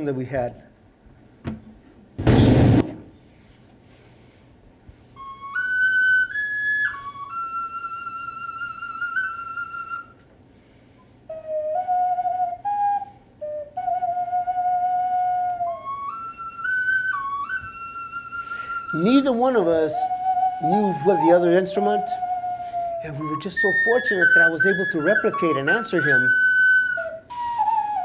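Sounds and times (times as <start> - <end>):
higher clay wind instrument: 4.9 - 28.0
lower clay wind instrument: 4.9 - 28.0.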